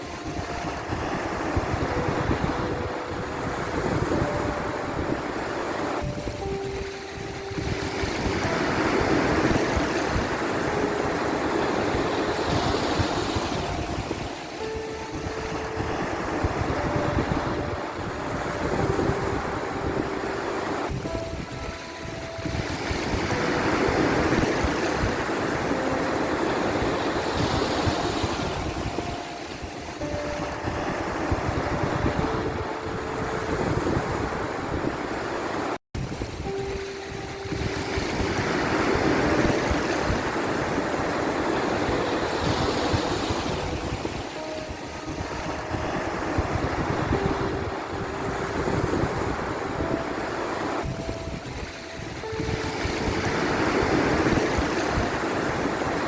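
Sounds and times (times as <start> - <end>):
soft background music: 0.0 - 56.0
waves washing in: 0.0 - 56.0.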